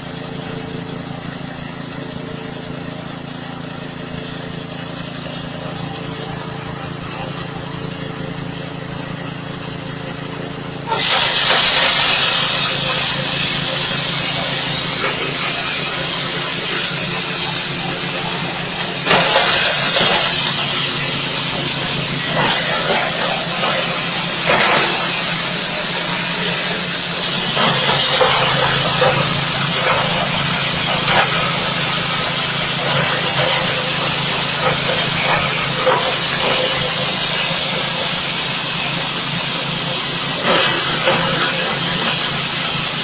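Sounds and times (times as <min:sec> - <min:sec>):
grinding machine rushing surges: 0:00.0 - 0:43.0
small engine running: 0:00.0 - 0:43.0.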